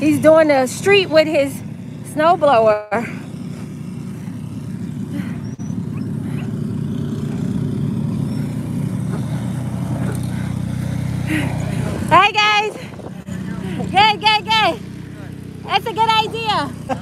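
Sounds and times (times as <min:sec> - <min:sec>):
snowblower engine running: 0:00.0 - 0:17.0.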